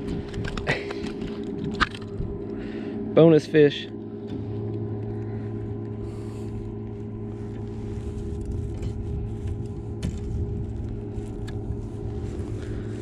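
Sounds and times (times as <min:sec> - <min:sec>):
boat motor idling: 0:00.0 - 0:13.0.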